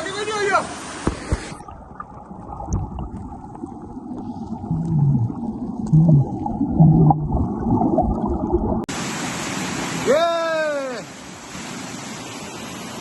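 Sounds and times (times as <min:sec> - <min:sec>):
muffled underwater waterfall: 0:00.0 - 0:13.0.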